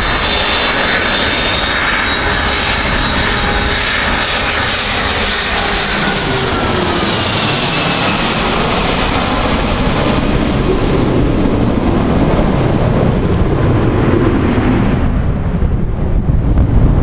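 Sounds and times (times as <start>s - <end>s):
jet engines passing overhead: 0.0s - 17.0s
wind buffeting microphone: 0.0s - 17.0s.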